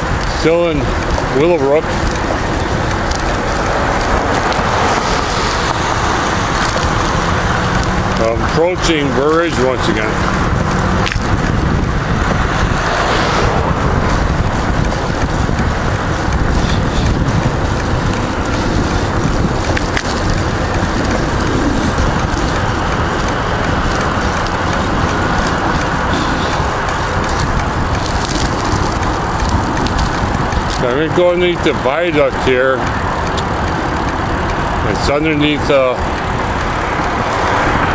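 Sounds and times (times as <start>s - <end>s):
bicycle tyre and road noise: 0.0s - 37.9s
wind noise on microphone: 0.0s - 37.9s.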